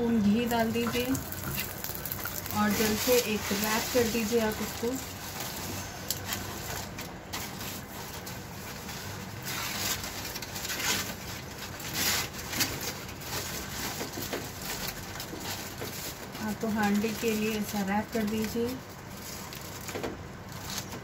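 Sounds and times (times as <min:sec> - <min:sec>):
aluminium foil crinkling: 0:00.2 - 0:21.0.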